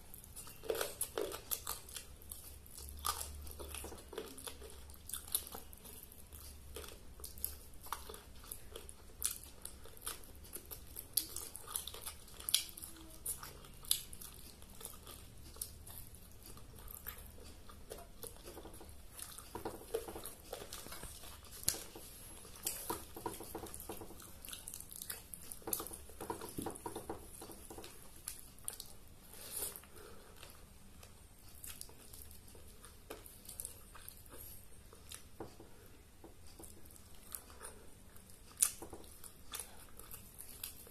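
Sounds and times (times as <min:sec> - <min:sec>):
person chewing: 0:00.0 - 0:40.9.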